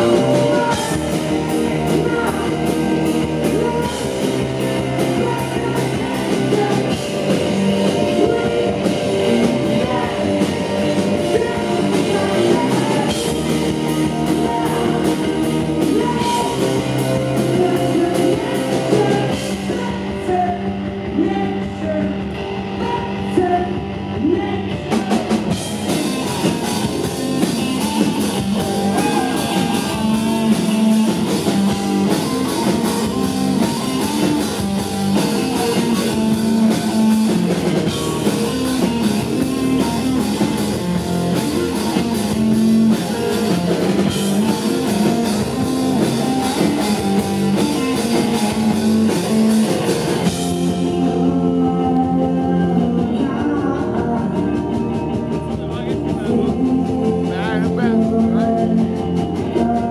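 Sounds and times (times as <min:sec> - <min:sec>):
bass guitar: 0:00.0 - 0:59.9
drum kit: 0:00.0 - 0:59.9
electric guitar: 0:00.0 - 0:59.9
person singing: 0:00.0 - 0:59.9.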